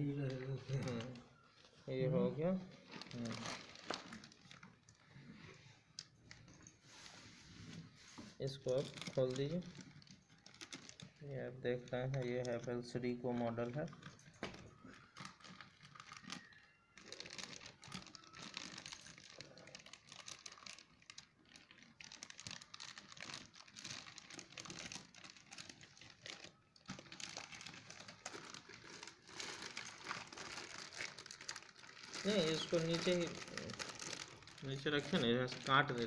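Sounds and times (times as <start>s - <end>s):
plastic bag crinkling: 0.0s - 7.2s, 8.4s - 36.0s.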